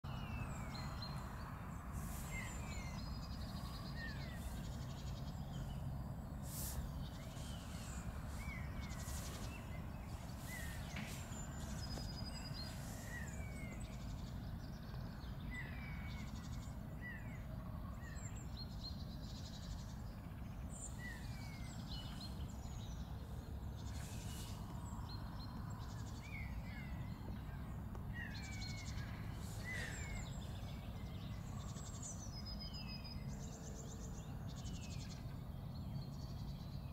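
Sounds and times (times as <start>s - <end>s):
low background noise: 0.0s - 36.9s
small birds chirping: 0.0s - 36.9s.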